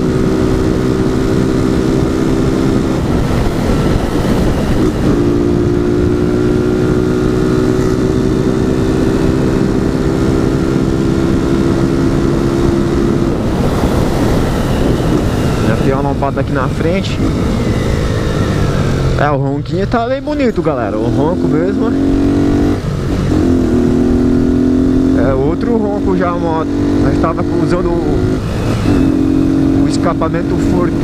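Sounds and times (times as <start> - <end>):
motorcycle exhaust drone: 0.0 - 19.6, 20.2 - 31.0.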